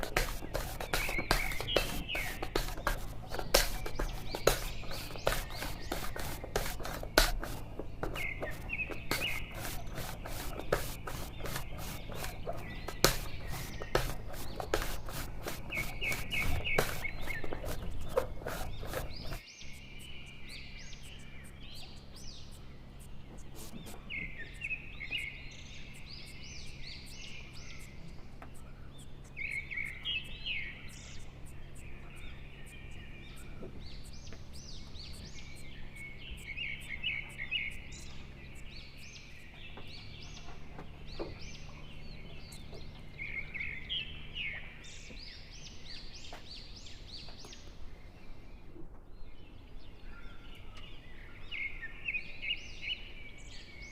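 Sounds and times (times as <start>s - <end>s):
birds chirping and singing: 0.0s - 53.9s
steady low hum: 0.0s - 53.9s.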